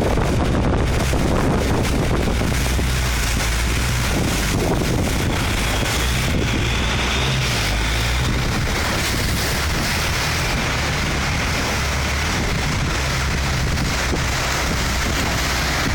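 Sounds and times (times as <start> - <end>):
motorboat engine droning: 0.0 - 15.9
water rushing: 0.0 - 15.9
wind buffeting microphone: 0.0 - 15.9.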